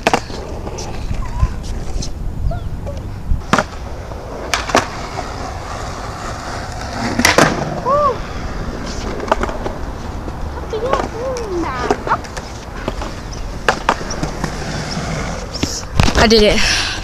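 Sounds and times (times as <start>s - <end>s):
skateboard clacking on ground: 0.0s - 2.2s, 2.8s - 16.5s
skateboard wheels rolling on concrete: 0.0s - 17.0s.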